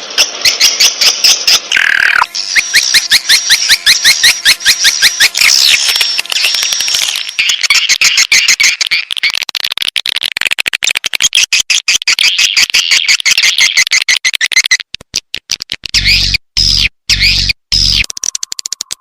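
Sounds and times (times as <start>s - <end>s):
bird chirps and clicks: 0.2s - 19.0s.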